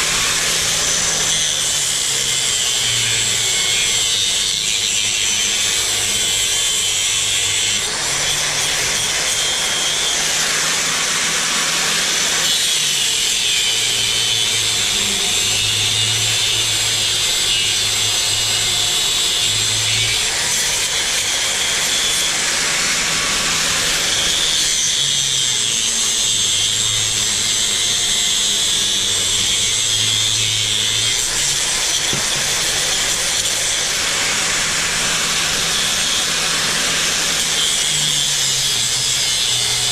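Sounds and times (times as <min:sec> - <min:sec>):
power drill boring: 0:00.0 - 0:39.9.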